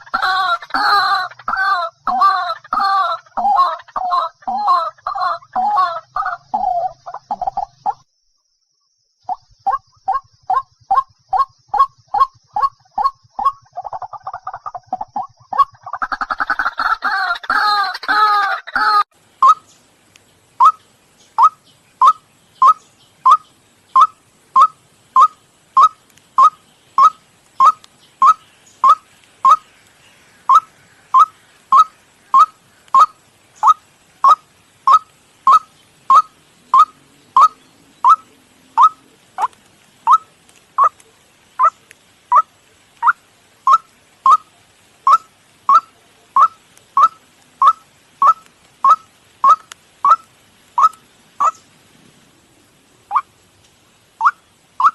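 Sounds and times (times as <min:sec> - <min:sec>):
waterhen calls: 0:00.0 - 0:08.1, 0:09.3 - 0:51.8, 0:53.0 - 0:53.4, 0:54.1 - 0:54.9.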